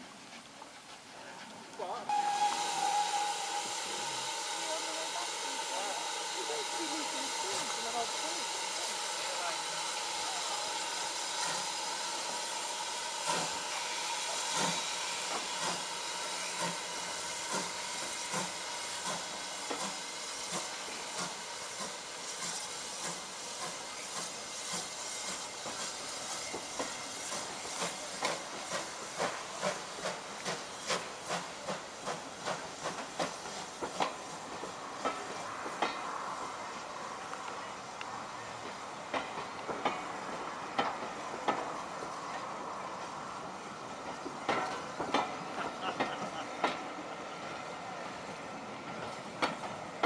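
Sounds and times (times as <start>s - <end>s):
steam hissing: 0.0s - 50.0s
steam locomotive chuffing: 0.0s - 50.0s.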